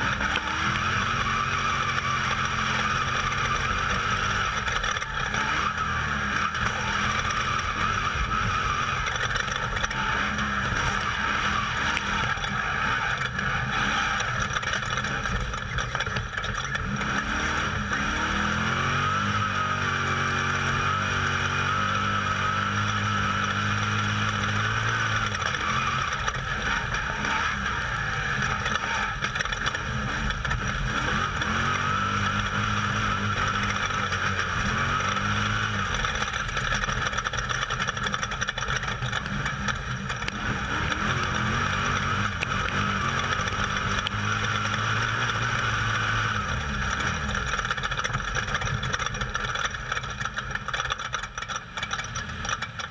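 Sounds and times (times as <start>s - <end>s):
constant rushing noise: 0.0s - 18.8s, 19.4s - 52.9s
off-road vehicle engine at speed: 0.0s - 52.9s.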